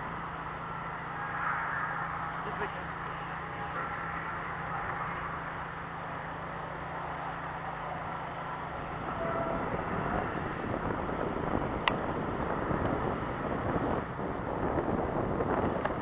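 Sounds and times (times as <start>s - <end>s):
engine idling: 0.0s - 16.0s
wind buffeting microphone: 0.0s - 16.0s.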